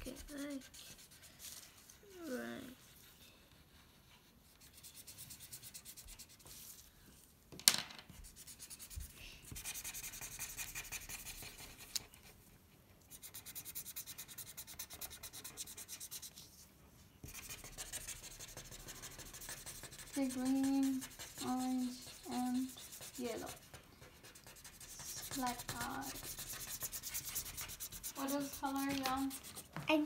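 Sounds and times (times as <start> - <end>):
markers scribbling on paper: 0.0 - 6.8, 8.2 - 12.4, 13.1 - 16.5, 17.2 - 30.0.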